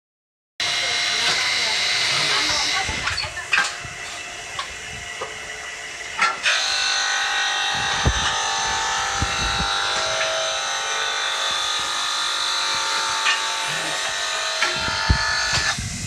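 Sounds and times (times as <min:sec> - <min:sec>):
stone cutting machine motor whine: 0:00.6 - 0:16.0.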